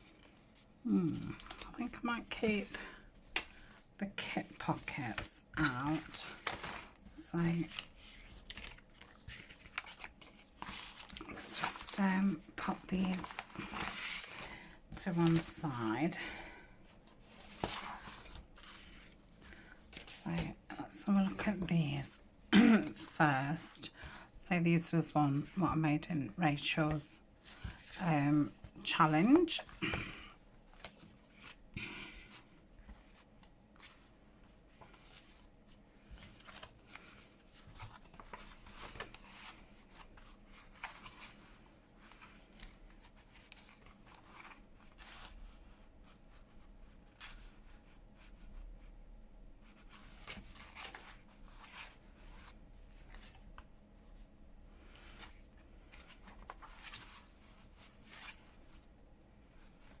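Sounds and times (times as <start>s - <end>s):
paper rustling and shuffling: 0.0s - 25.7s, 26.6s - 48.9s, 49.6s - 60.0s.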